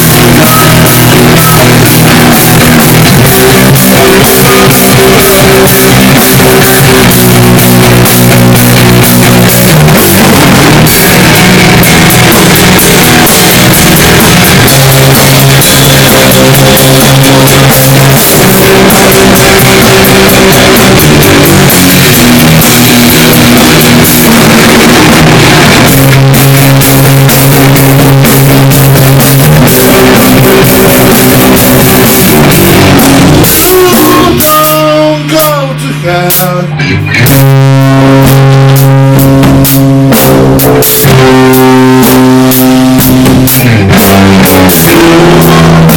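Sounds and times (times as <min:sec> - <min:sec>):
distorted guitar chords: 0:00.0 - 0:45.9
drum kit beat: 0:00.0 - 0:45.9.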